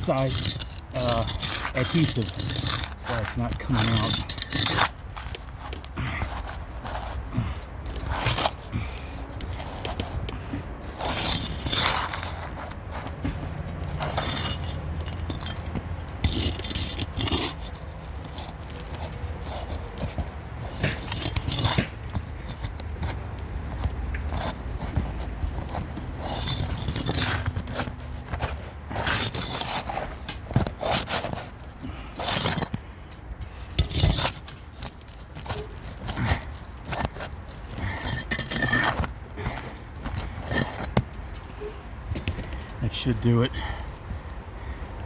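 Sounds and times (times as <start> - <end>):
metal tool scraping roof shingles: 0.0 - 42.4.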